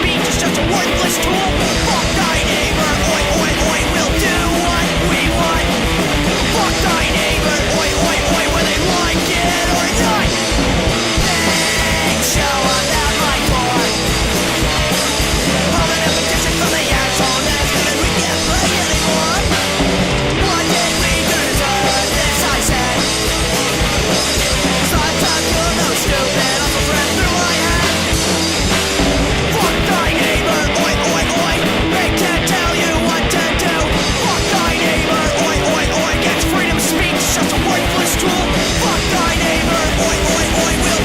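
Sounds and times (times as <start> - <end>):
bass guitar: 0.0 - 41.0
distorted electric guitar: 0.0 - 41.0
drums: 0.0 - 41.0.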